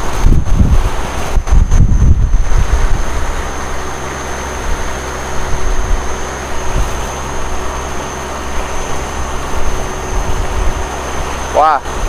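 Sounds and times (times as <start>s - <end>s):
boat engine droning: 0.0s - 12.0s
water rushing: 0.0s - 12.0s.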